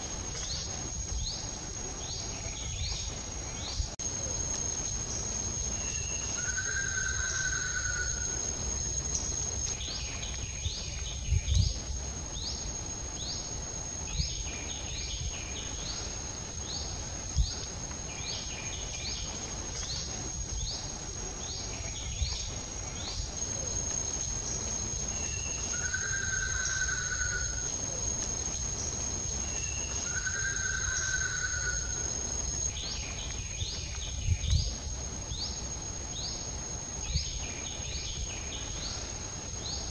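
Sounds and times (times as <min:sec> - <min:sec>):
low wind rumble: 0:00.0 - 0:30.0, 0:30.8 - 0:39.9
high insect drone: 0:00.0 - 0:39.9.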